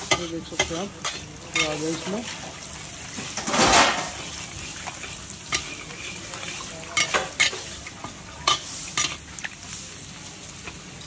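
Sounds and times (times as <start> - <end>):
frying hiss: 0.0 - 11.0
meat sizzling in hot oil: 0.0 - 11.0.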